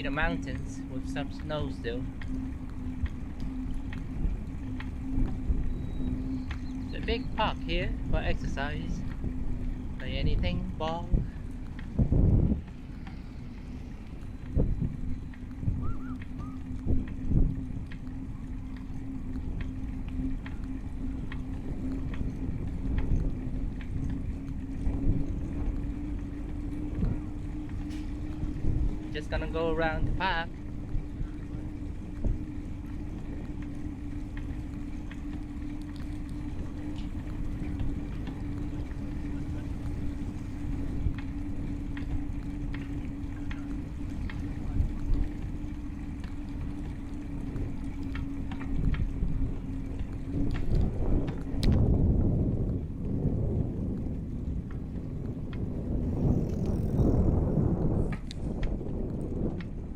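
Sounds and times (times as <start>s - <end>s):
bicycle ride rumble: 0.0s - 59.9s
light ticks: 0.0s - 59.9s
steady low hum: 0.0s - 59.9s
wind on camera: 0.0s - 59.9s.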